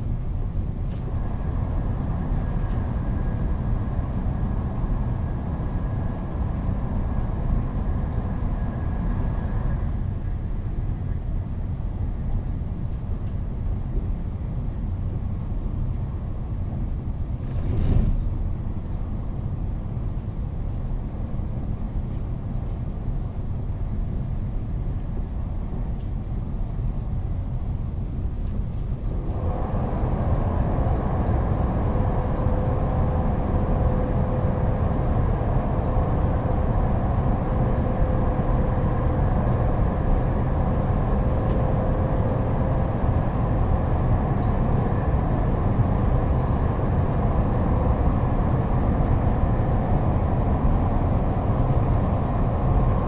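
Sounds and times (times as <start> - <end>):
faint steady whine: 0.0 - 14.0, 18.7 - 53.0
train rumbling on rails: 0.0 - 53.0.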